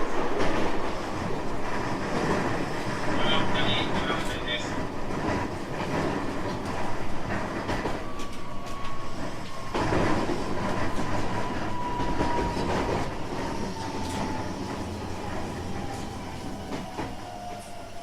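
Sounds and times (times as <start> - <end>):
rail joint clicks: 0.0 - 18.0
train wheels rumbling on rail: 0.0 - 18.0.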